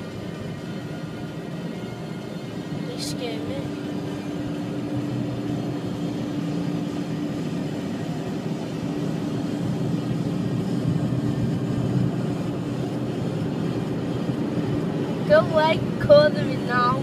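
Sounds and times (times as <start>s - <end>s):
muffled car wash machinery: 0.0s - 17.0s.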